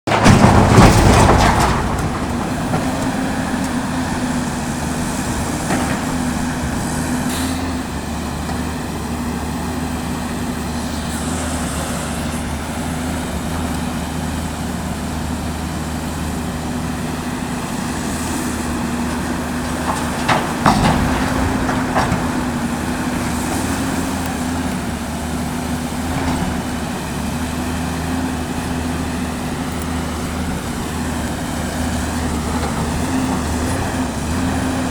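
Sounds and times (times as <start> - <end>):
excavator diesel engine under load: 0.0 - 34.9.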